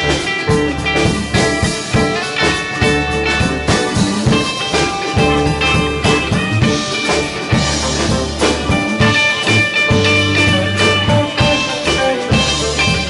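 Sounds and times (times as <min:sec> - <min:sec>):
drum kit beat: 0:00.0 - 0:13.0
electric bass: 0:00.0 - 0:13.0
electric guitars: 0:00.0 - 0:13.0
keyboard: 0:00.0 - 0:13.0.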